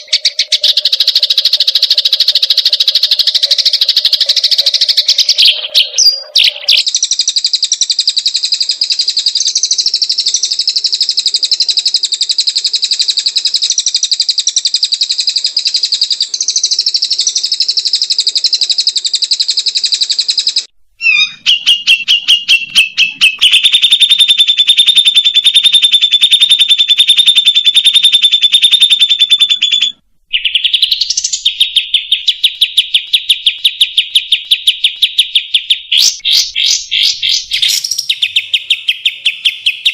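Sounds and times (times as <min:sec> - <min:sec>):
recorded songbird trills: 0:00.0 - 0:39.9.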